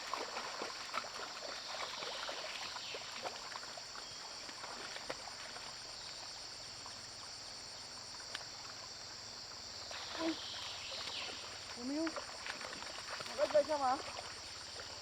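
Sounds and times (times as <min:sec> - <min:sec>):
crickets and insects droning: 0:00.0 - 0:15.0.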